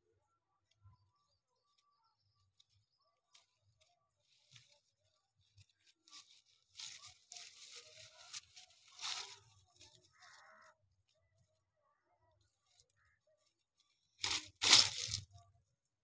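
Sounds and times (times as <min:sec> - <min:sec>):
leaves and twigs rustling: 0:01.7 - 0:11.5, 0:12.4 - 0:15.4.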